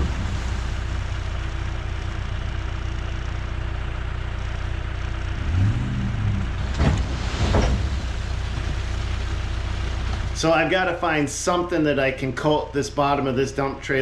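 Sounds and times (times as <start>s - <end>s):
backhoe engine running: 0.0s - 14.0s.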